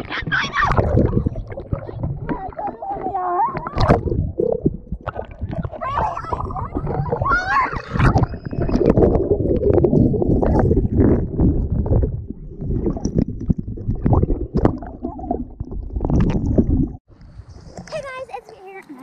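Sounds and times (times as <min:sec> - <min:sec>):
water sloshing and gurgling: 0:00.0 - 0:18.7.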